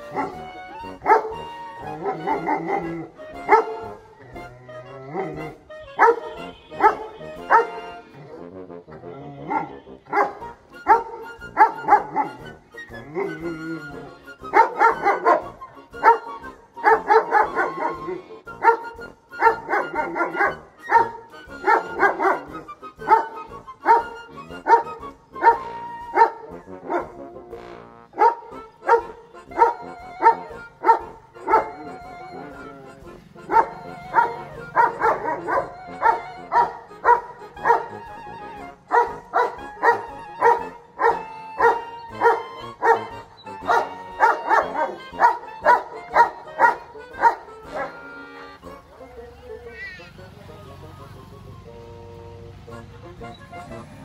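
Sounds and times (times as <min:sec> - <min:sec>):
dog barking: 0:00.0 - 0:04.4, 0:05.0 - 0:08.5, 0:09.4 - 0:27.3, 0:28.2 - 0:32.1, 0:33.4 - 0:38.2, 0:38.9 - 0:48.1.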